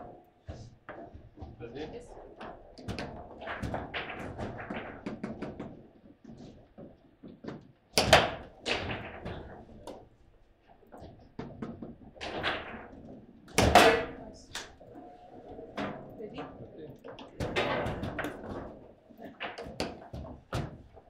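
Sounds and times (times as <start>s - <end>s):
foosball clacks and knocks: 0.0s - 21.0s.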